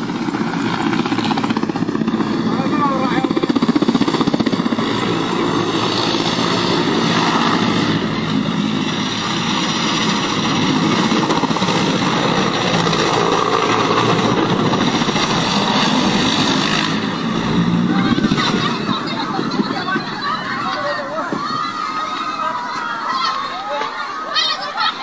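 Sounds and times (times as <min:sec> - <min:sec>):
loud engine drone: 0:00.0 - 0:21.9.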